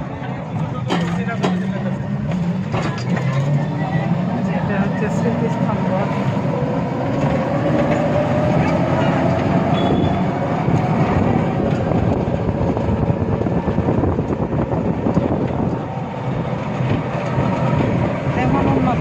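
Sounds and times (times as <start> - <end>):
moving vehicle rumble and rattle: 0.0 - 19.0.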